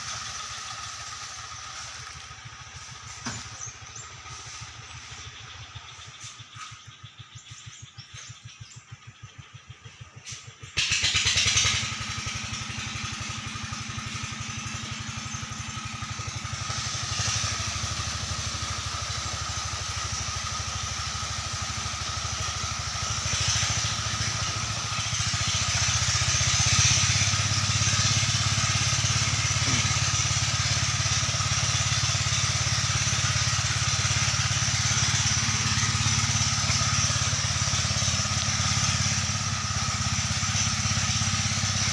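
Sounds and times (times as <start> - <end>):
pump engine running: 0.0 - 41.9.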